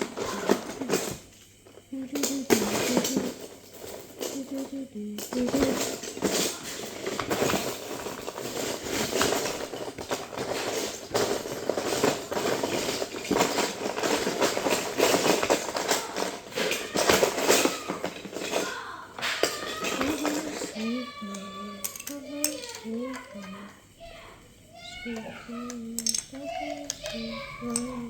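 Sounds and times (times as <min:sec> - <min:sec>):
plastic bricks clattering: 0:00.0 - 0:23.8, 0:24.9 - 0:28.0.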